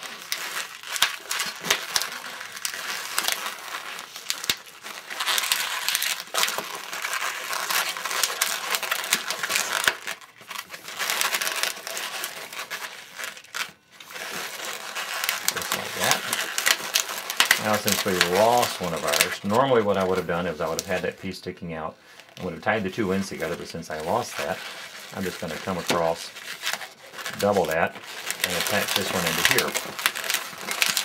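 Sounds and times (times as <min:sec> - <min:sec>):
balloon rubber creaking: 0:00.0 - 0:31.0.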